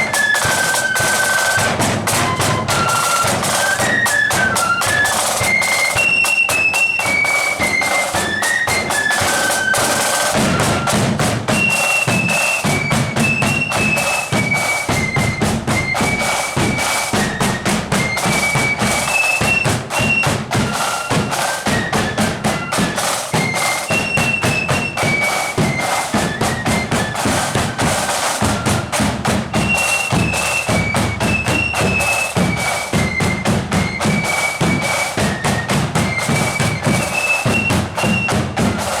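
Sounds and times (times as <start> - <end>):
shrill flute melody: 0.0 - 39.0
snare and bass drums: 0.0 - 39.0.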